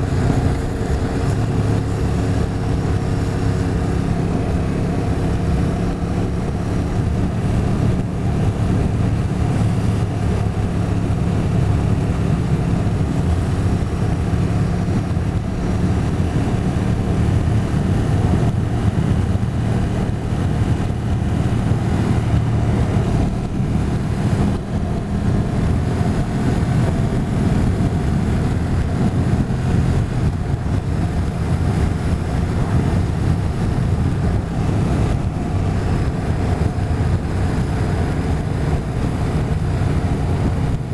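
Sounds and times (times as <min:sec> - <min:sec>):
motorcycle engine running: 0:00.0 - 0:40.9
road noise: 0:00.0 - 0:40.9
rushing wind: 0:00.0 - 0:40.9.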